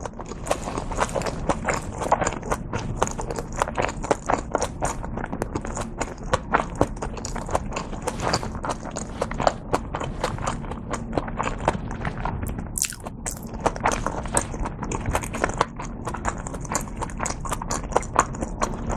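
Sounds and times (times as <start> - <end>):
chewing with wet mouth clicks: 0.0 - 18.9.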